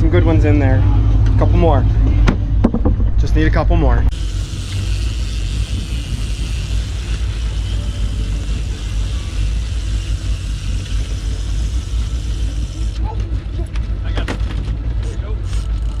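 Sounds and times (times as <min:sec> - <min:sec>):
boat motor rumble: 0:00.0 - 0:16.0.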